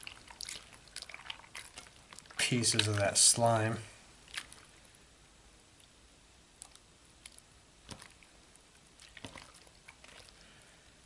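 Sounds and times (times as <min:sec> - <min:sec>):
wet slime squelches: 0:00.0 - 0:11.0.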